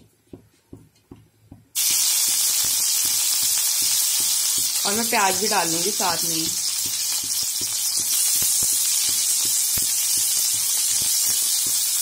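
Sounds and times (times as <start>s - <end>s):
vegetables sizzling in hot oil: 1.8s - 12.0s.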